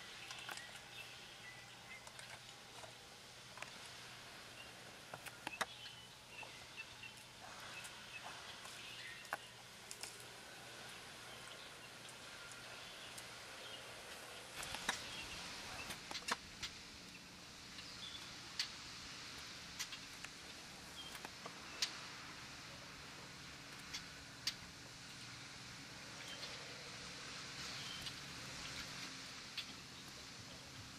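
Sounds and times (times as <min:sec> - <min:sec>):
low outdoor hiss: 0:00.0 - 0:30.9.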